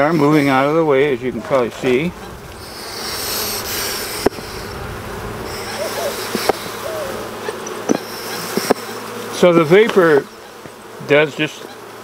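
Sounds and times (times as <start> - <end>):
smoker hissing vapor: 0.0 - 10.6
bees humming: 0.0 - 12.0.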